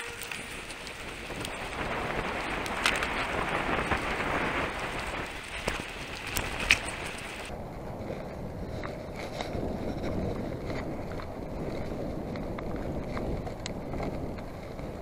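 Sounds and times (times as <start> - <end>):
bike rattling clicks: 0.0 - 7.6, 8.7 - 15.0
bike tyres hissing on tarmac: 0.0 - 13.0
wind on microphone: 0.0 - 15.0.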